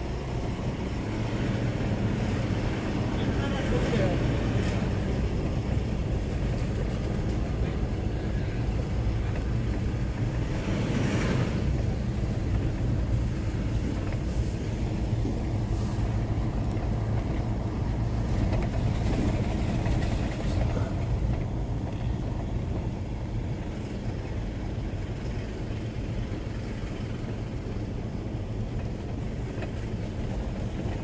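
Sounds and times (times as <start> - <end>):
car engine and tyres humming: 0.0 - 31.0.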